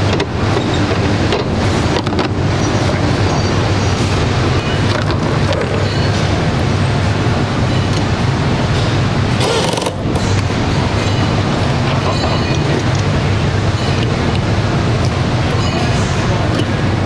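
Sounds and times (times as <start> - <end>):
factory machinery hum: 0.0 - 17.0.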